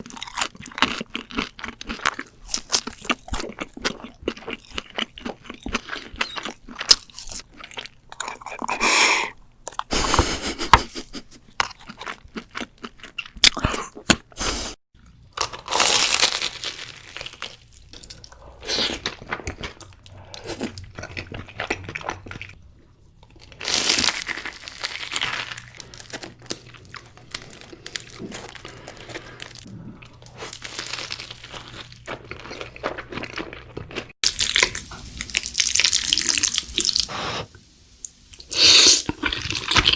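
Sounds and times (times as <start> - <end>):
crunching and chewing food: 0.0 - 10.3, 11.4 - 14.4, 15.0 - 37.1, 38.2 - 39.9.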